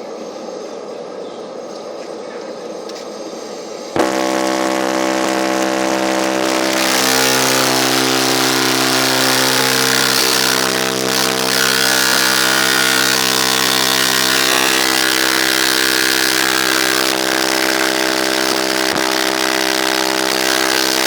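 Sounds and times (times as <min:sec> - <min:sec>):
loud bass from car sound system: 0:04.0 - 0:21.0.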